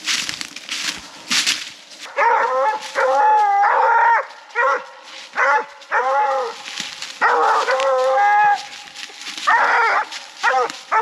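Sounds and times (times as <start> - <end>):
hounds howling and barking: 2.1 - 11.0.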